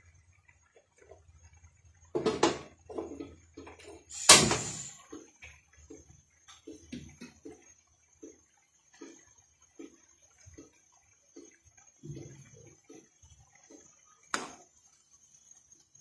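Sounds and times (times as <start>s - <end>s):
boiling water popping: 0.0s - 16.0s.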